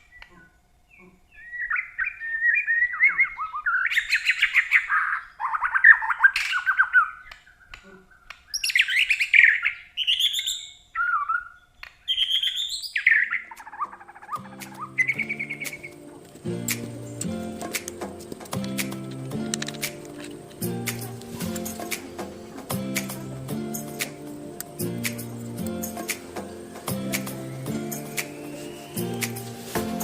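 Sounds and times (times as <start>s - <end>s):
songbird trilling and warbling: 0.0s - 30.0s.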